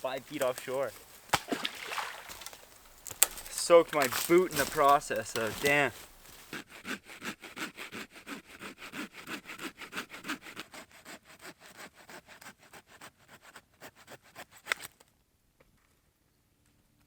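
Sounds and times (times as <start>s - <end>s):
hand saw cutting wood: 0.3s - 15.0s.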